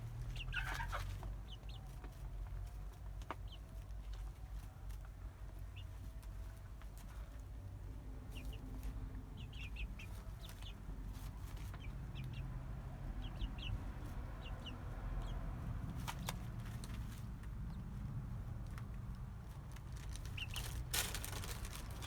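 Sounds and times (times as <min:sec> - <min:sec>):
chickens chirping: 0:00.1 - 0:07.5, 0:08.1 - 0:22.0.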